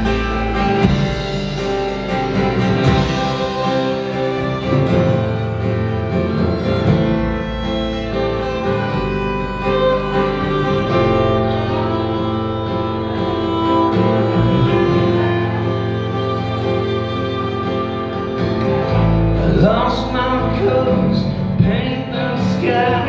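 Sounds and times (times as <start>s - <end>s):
violin long held notes: 0.0s - 21.0s
low sustained bass: 0.0s - 21.9s.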